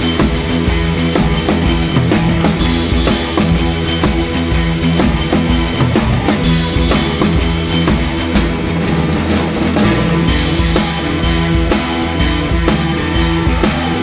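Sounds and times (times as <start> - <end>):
drum kit beat: 0.0 - 14.0
rock music: 0.0 - 14.0.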